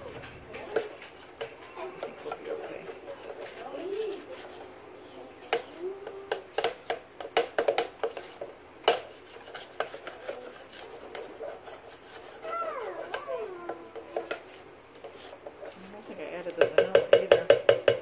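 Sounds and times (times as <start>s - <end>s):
utensil scraping batter: 0.0s - 4.8s, 5.4s - 18.0s.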